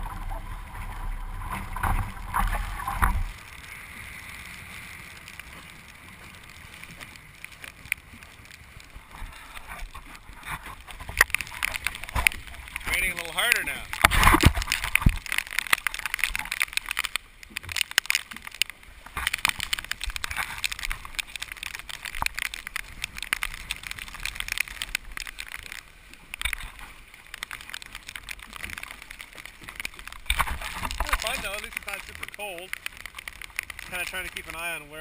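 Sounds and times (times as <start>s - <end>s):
rain and spray ticking on camera: 0.0s - 35.0s
water rushing along boat hull: 0.0s - 35.0s.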